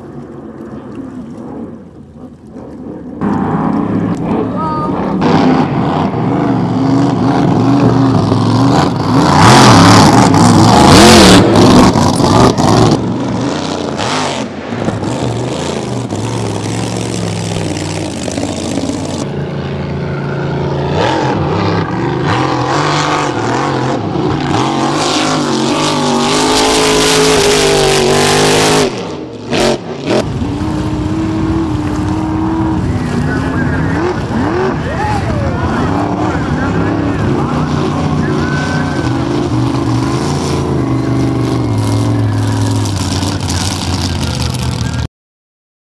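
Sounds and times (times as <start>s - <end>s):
racing boat engines at full throttle: 0.0s - 45.0s.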